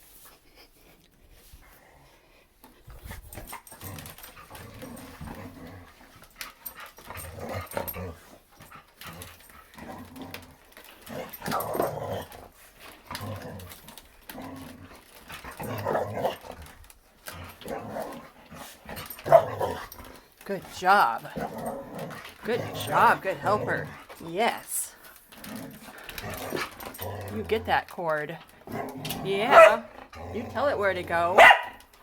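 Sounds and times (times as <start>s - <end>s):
dog growling: 3.6s - 31.8s.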